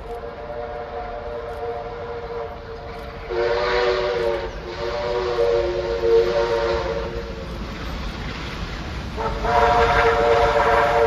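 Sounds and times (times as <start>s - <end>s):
steam locomotive chime whistle: 0.2s - 7.5s, 9.2s - 11.0s.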